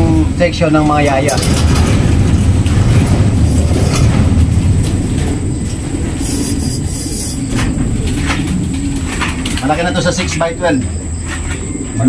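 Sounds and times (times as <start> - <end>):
sliding door rumbling on rollers: 0.0 - 12.0.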